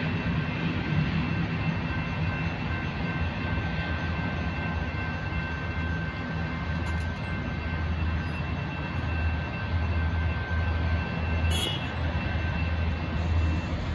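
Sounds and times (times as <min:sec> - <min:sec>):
freight train rumbling: 0:00.0 - 0:13.9
electronic crossing bells ringing: 0:01.5 - 0:13.9.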